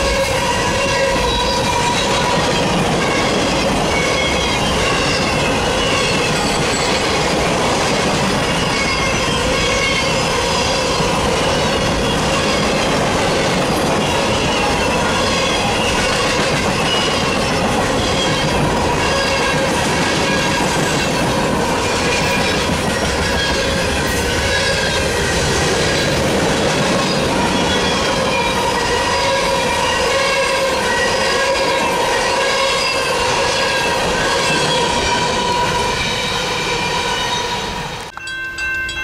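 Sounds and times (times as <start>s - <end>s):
high wheel squeal: 0.0s - 7.5s, 8.2s - 38.1s
steel wheels rumbling on rail: 0.0s - 38.1s.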